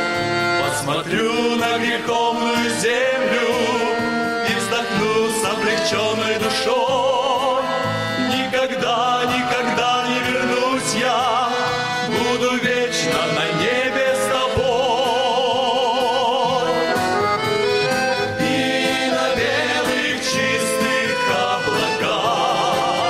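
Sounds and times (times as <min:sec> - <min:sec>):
instrumental accompaniment: 0:00.0 - 0:23.0
men's choir singing with vibrato: 0:00.4 - 0:23.0.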